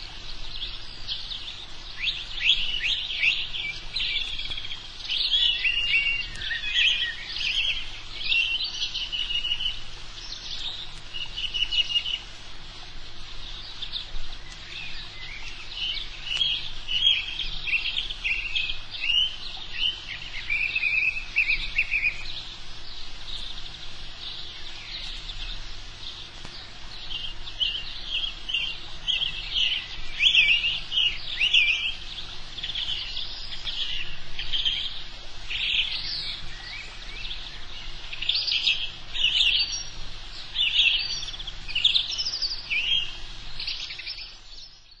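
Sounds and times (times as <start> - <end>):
birdsong chirps and trills: 0.0 - 45.0.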